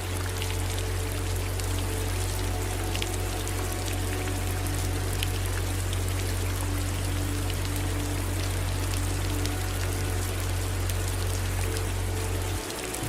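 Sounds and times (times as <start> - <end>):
rain hissing: 0.0 - 13.0
raindrops tapping: 0.0 - 13.0.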